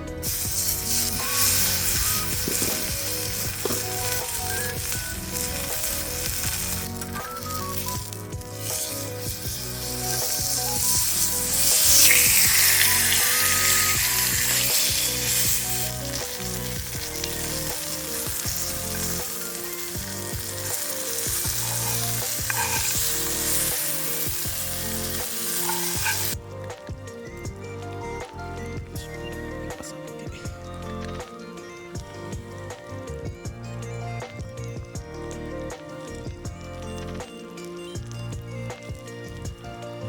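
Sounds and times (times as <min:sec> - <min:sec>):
background music: 0:00.0 - 0:40.0
food sizzling in a pan: 0:00.1 - 0:27.4, 0:34.3 - 0:40.0.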